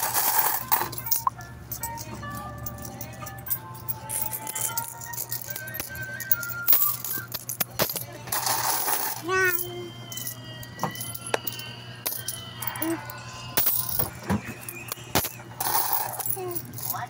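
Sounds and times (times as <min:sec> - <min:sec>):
metal coins clinking: 0:00.0 - 0:17.0.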